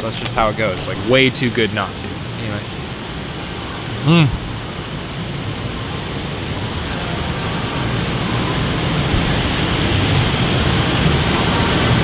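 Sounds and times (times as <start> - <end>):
stormy weather rushing noise: 0.0 - 12.0.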